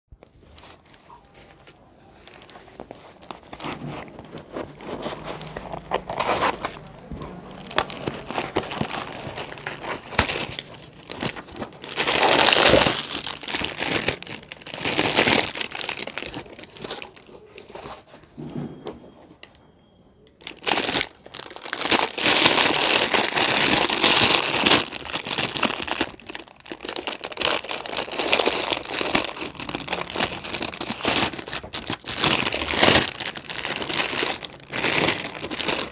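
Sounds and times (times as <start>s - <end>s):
foil packet crinkling: 0.3s - 18.2s, 20.4s - 35.9s.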